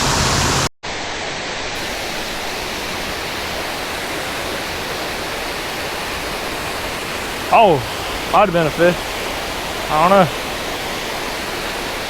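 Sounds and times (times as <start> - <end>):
water pouring over waterfall: 1.0 - 12.0.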